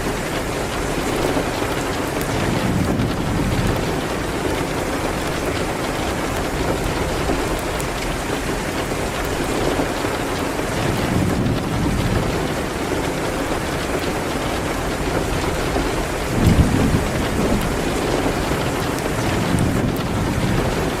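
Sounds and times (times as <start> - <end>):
rain hitting a window: 0.0 - 21.0.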